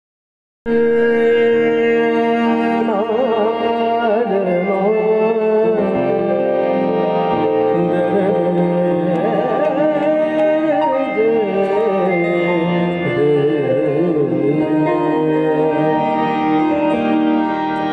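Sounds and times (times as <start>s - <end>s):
man singing: 0.7s - 17.2s
harmonium and keyboard chords: 0.7s - 17.9s.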